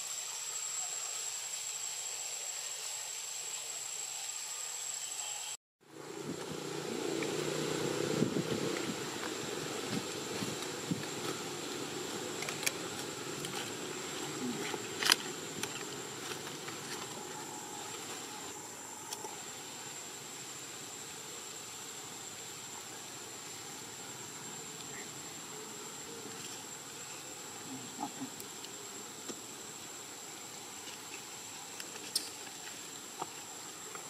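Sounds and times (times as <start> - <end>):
high-pitched insect drone: 0.0 - 34.0.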